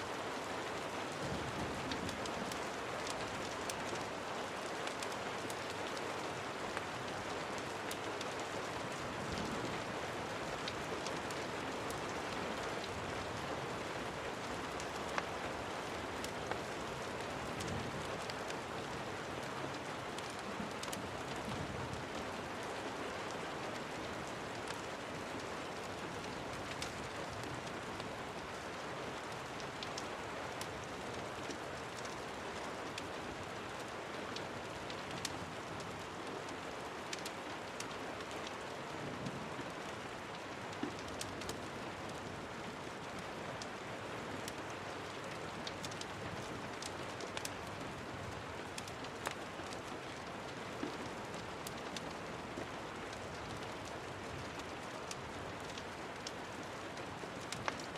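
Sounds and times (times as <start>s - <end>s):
rain on surfaces: 0.0s - 57.9s.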